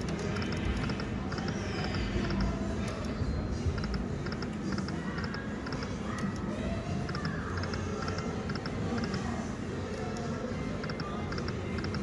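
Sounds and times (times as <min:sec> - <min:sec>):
casino crowd hubbub: 0:00.0 - 0:12.0.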